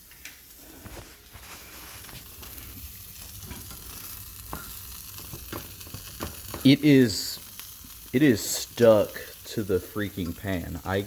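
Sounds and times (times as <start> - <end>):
sandwich sizzling in a frying pan: 0.0 - 11.0.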